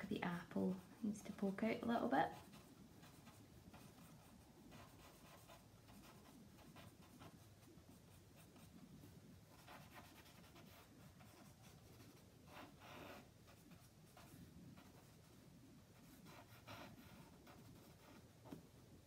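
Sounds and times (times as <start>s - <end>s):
charcoal scratching on paper: 0.4s - 8.8s, 9.5s - 15.4s, 16.0s - 18.3s.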